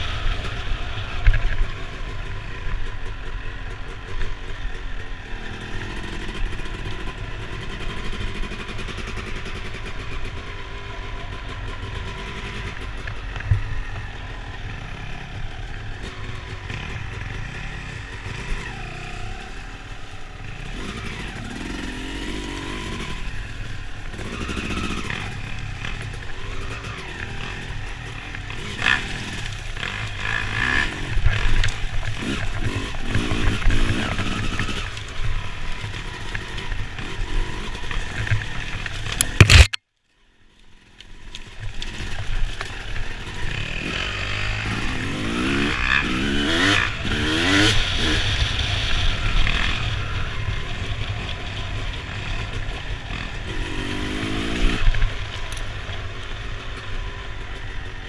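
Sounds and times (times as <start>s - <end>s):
dirt bike engine revving: 5.0s - 39.8s, 41.8s - 55.1s.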